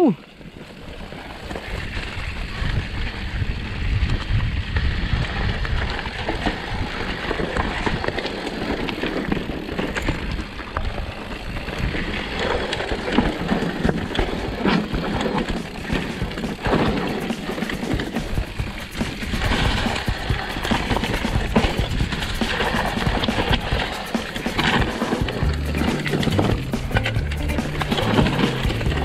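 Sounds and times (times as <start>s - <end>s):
bike rattling over bumps: 0.2s - 29.0s
wind rumble on microphone: 0.4s - 29.0s.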